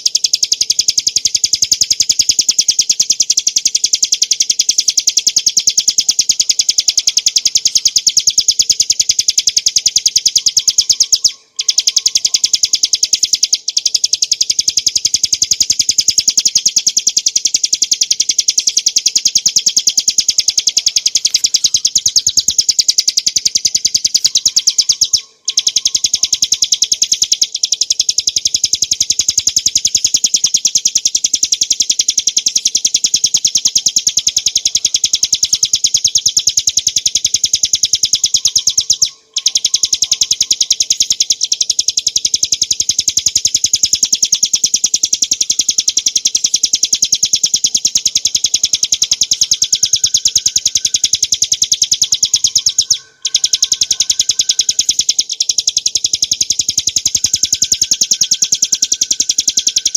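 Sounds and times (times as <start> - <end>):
bird singing high-pitched trill: 0.0 - 59.9.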